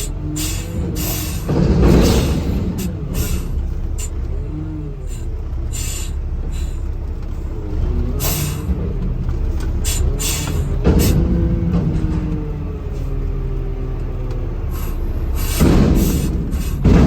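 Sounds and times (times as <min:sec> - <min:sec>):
garbage truck engine rumbling: 0:00.0 - 0:17.0.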